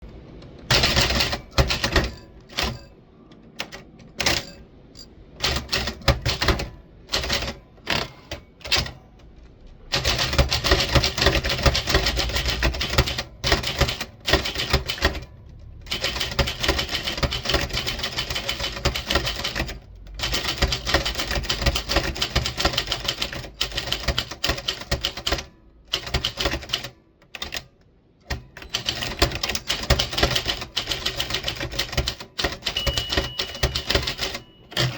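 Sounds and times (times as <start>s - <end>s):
typewriter keys being struck: 0.6s - 9.2s, 9.9s - 27.7s, 28.3s - 34.9s.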